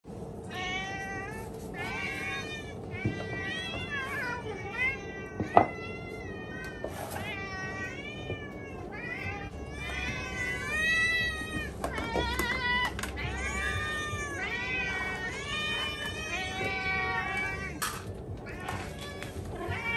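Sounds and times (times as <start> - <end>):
cats meowing: 0.3 - 19.9.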